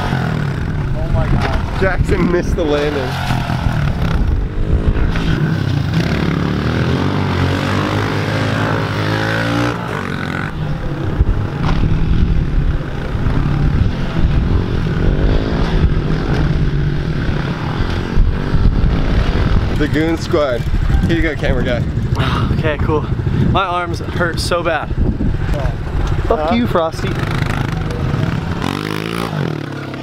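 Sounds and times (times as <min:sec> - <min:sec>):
motorbike engines revving: 0:00.0 - 0:30.0.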